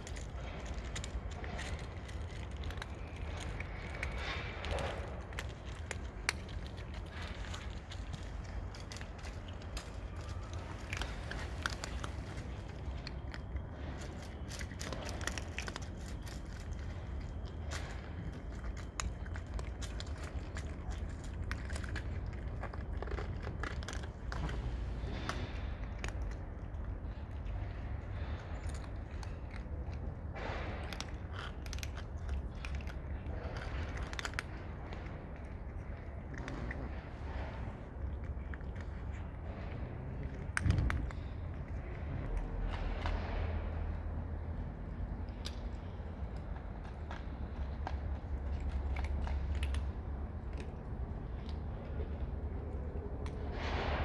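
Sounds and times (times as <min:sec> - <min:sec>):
cats chewing crunchy food: 0:00.0 - 0:54.0
steady low rumble: 0:00.0 - 0:54.0.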